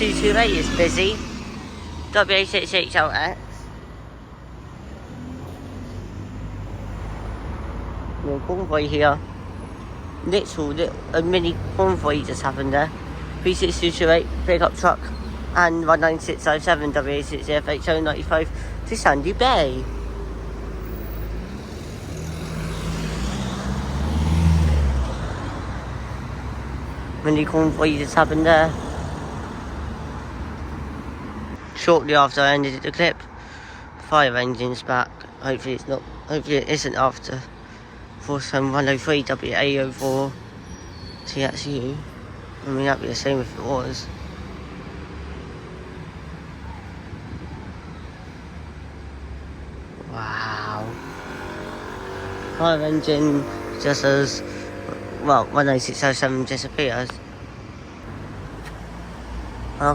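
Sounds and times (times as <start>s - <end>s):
vehicle passing by: 0.0s - 4.0s, 4.6s - 31.7s, 41.8s - 59.9s
street traffic: 0.0s - 59.9s.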